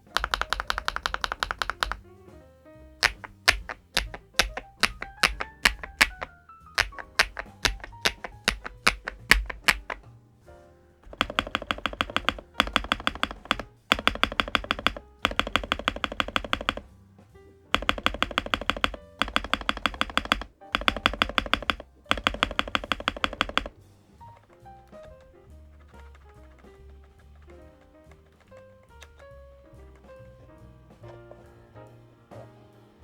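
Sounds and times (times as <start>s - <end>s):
typing on mechanical keyboard: 0.0s - 2.1s, 3.0s - 10.1s, 11.0s - 16.9s, 17.7s - 29.4s.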